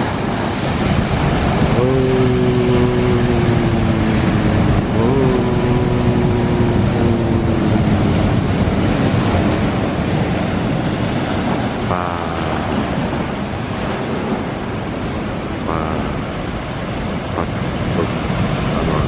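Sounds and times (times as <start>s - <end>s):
ocean surf breaking over rocks: 0.0s - 19.0s
wind buffeting microphone: 0.0s - 19.0s.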